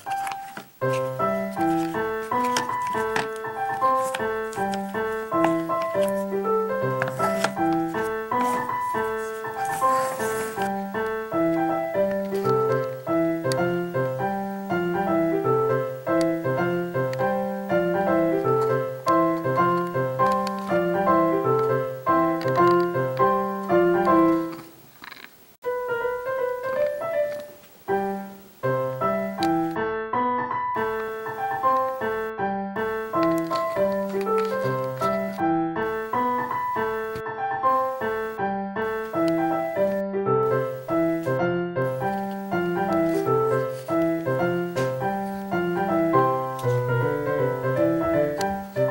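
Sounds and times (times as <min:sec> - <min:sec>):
piano music with quick notes: 0:00.0 - 0:48.9.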